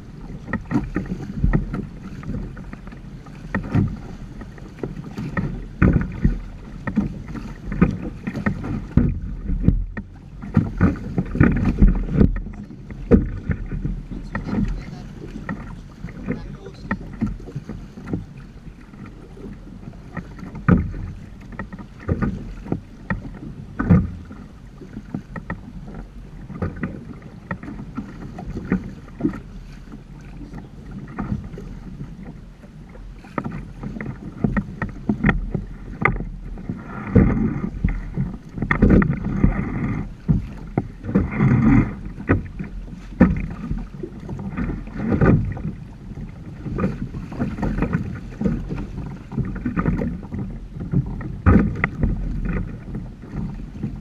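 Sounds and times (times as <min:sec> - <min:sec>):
water splashing against boat hulls: 0:00.0 - 0:54.0.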